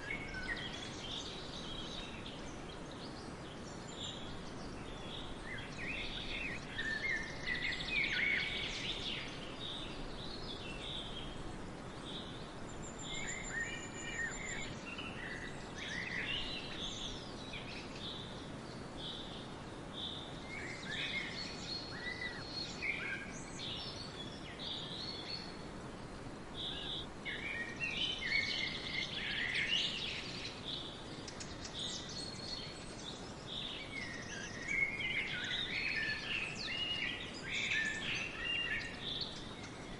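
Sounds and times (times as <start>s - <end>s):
background hiss: 0.0s - 39.9s
songbirds singing and chirping: 0.0s - 39.9s.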